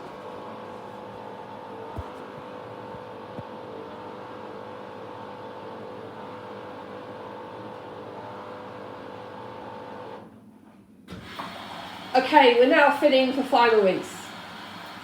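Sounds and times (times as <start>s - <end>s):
washing machine humming: 0.0s - 10.3s, 11.0s - 15.0s.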